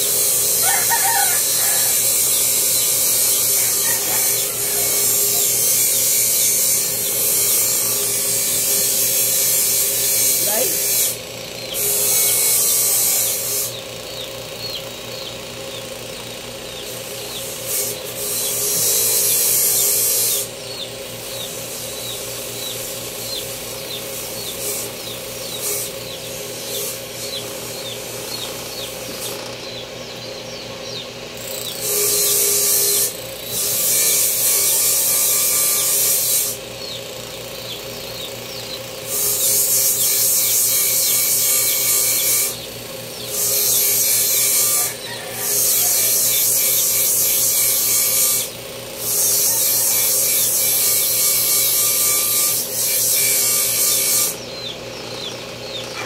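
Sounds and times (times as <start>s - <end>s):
rasping abrasive grinding: 0.0s - 13.8s, 16.4s - 29.6s, 31.4s - 36.9s, 39.1s - 54.4s
power tool running: 0.0s - 56.0s.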